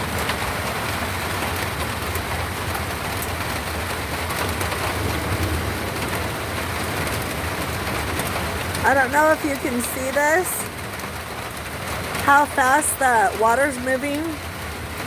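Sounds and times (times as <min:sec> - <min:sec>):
torrential rain pouring: 0:00.0 - 0:15.0.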